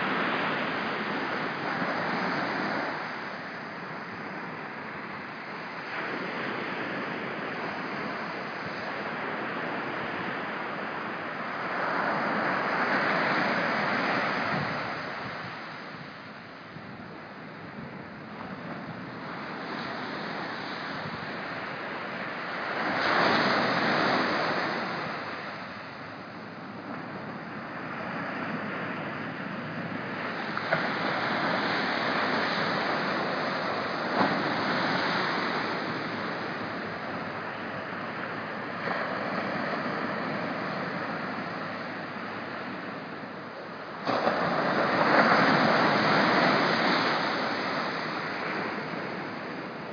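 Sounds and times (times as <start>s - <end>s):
surf breaking on beach: 5.5s - 49.9s.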